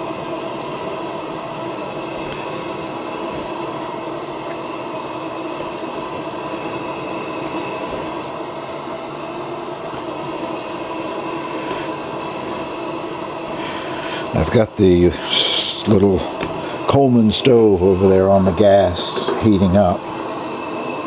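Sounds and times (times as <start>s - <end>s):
gas burner hissing: 0.0s - 21.0s.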